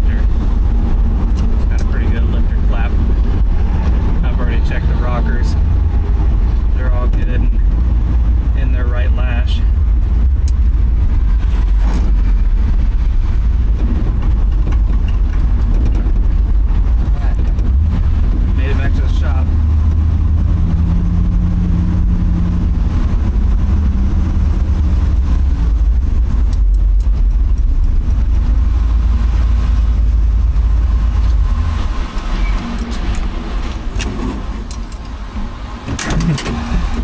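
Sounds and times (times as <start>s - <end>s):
truck engine rumble: 0.0s - 37.0s.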